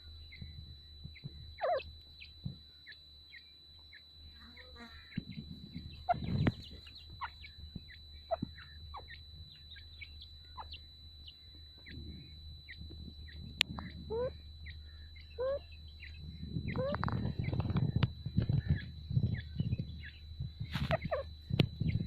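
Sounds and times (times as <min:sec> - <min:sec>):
birds chirping calls: 0:00.0 - 0:22.0
high-pitched whine: 0:00.0 - 0:22.0
rising bird calls: 0:01.2 - 0:22.0.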